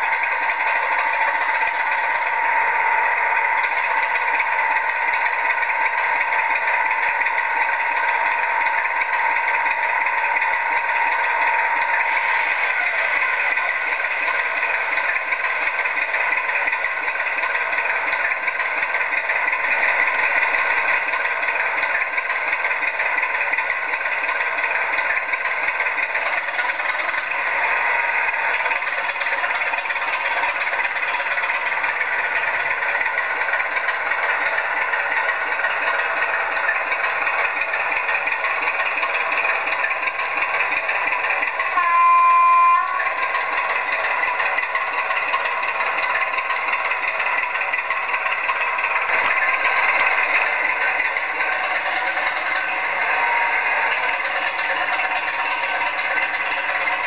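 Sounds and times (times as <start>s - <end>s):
model locomotive diesel engine sound: 0.0s - 57.0s.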